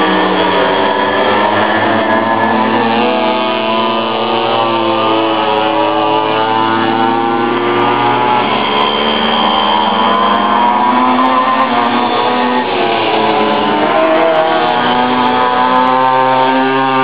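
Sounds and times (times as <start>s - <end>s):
pocket bike engines running: 0.0s - 17.0s.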